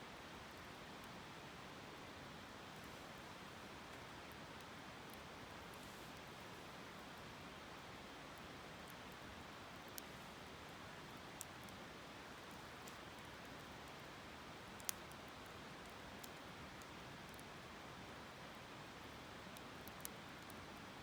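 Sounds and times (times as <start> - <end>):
campfire crackles: 0.1 - 21.0.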